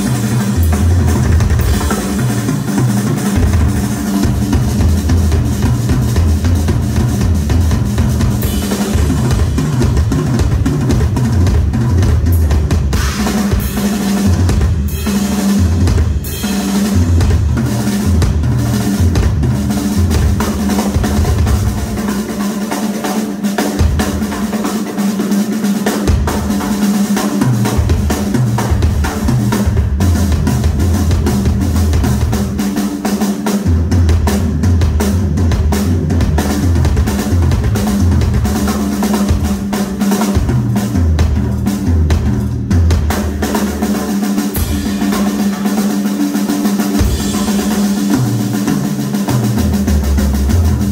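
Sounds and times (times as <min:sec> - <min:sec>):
driving bass drums: 0:00.0 - 0:50.9
fast snare and tom strokes: 0:00.0 - 0:50.9.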